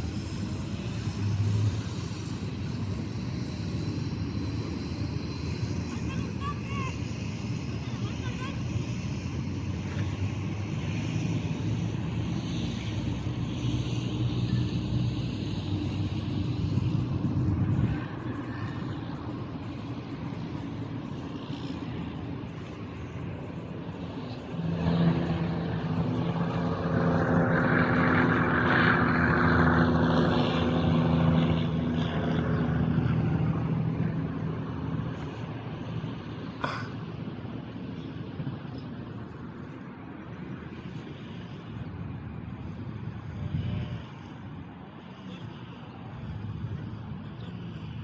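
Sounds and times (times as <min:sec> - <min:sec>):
engine passing by: 0:00.0 - 0:48.0.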